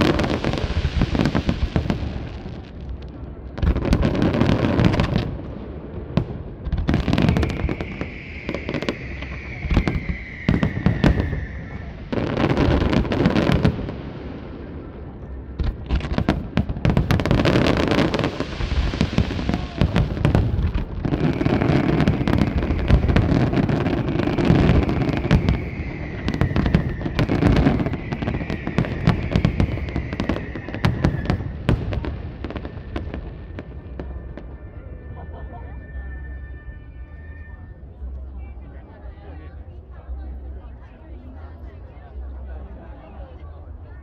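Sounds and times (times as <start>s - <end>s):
fireworks bursts and bangs: 0.0s - 35.3s.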